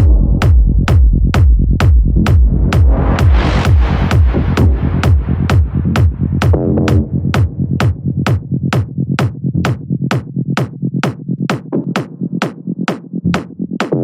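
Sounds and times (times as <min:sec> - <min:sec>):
low synth bass: 0:00.0 - 0:14.0.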